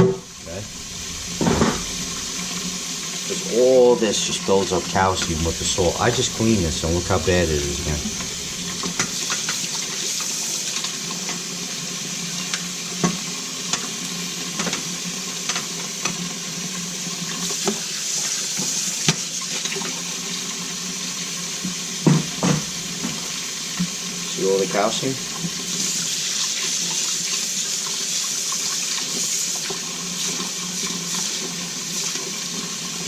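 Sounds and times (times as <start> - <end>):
tap water running into sink: 0.0 - 33.0.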